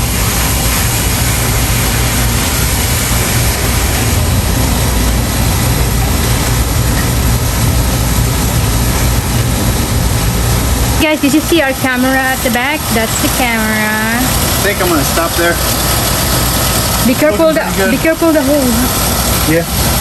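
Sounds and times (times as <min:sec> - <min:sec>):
air conditioner unit humming: 0:00.0 - 0:20.0
water hose spraying: 0:00.0 - 0:20.0.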